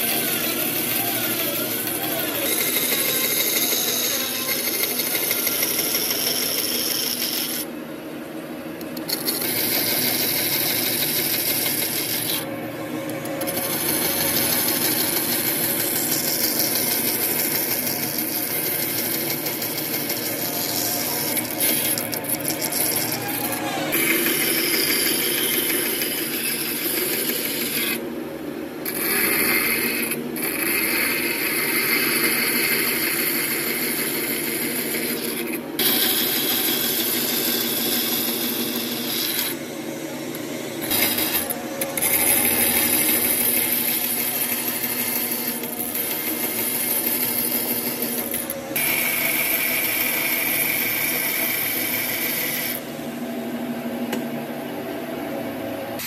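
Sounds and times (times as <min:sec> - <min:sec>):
bandsaw cutting wood: 0:00.0 - 0:07.7, 0:09.0 - 0:12.5, 0:13.2 - 0:28.0, 0:28.8 - 0:39.7, 0:40.3 - 0:52.9.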